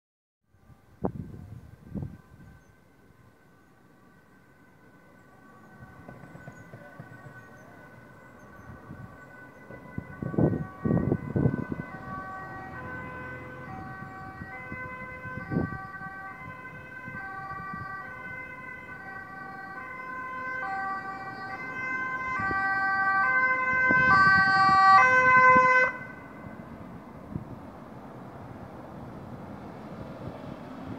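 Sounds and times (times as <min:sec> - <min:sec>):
ambulance two-tone siren: 0:00.5 - 0:27.6.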